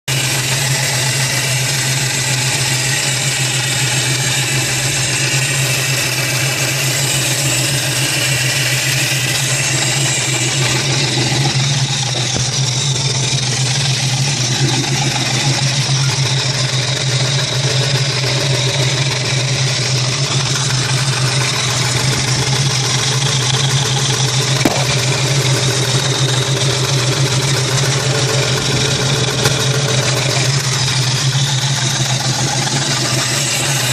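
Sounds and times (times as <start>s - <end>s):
engine idling with ticking: 0.0s - 33.9s.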